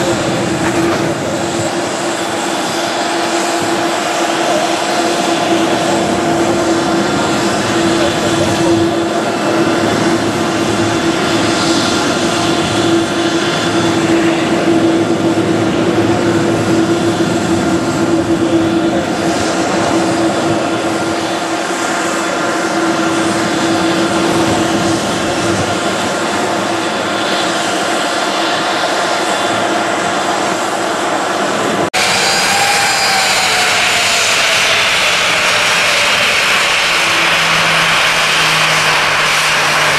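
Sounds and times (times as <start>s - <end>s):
jet engines at taxi: 0.0s - 39.9s
jet engines idling whine: 0.0s - 39.9s
strong steady hum: 0.0s - 39.9s.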